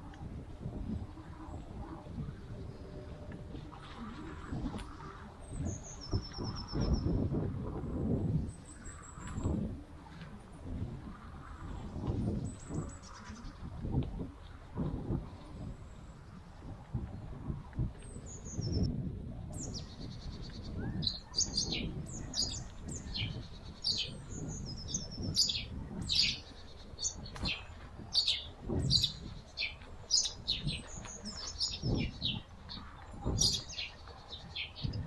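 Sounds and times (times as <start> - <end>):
songbirds chirping: 0.0 - 7.4, 8.3 - 18.9, 19.5 - 35.0.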